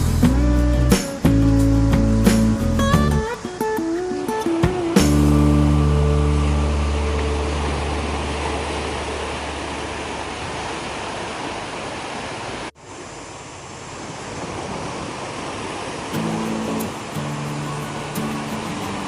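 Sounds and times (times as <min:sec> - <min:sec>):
sea waves washing on beach: 0:03.2 - 0:19.0.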